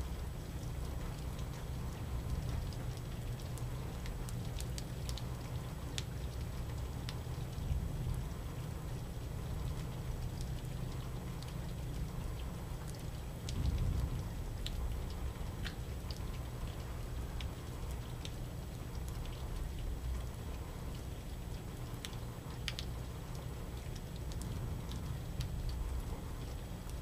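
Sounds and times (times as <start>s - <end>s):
low steady rumble: 0.0s - 27.0s
rain drips tapping: 0.0s - 27.0s.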